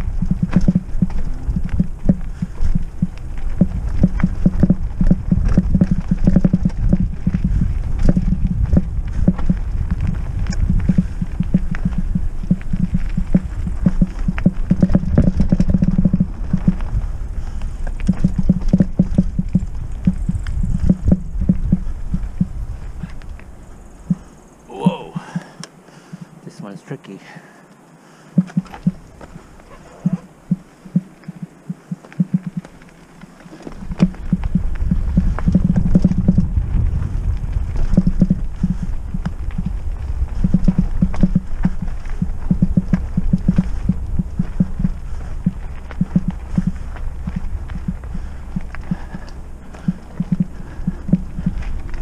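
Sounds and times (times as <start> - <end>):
mountain bike rattling: 0.0 - 24.4, 28.2 - 52.0
low rumble: 0.0 - 25.6, 28.4 - 52.0.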